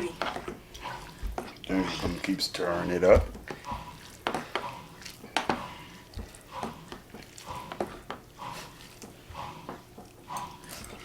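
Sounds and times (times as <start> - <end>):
fork stirring noodles: 0.0 - 11.0.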